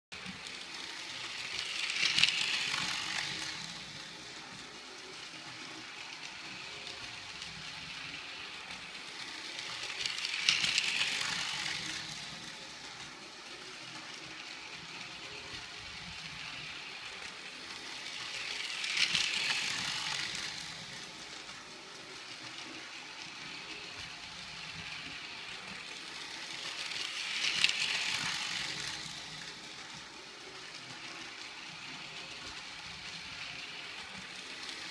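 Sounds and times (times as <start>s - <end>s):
toy train motor whirring: 0.2s - 34.9s
toy train wheels clattering on track: 0.2s - 34.9s.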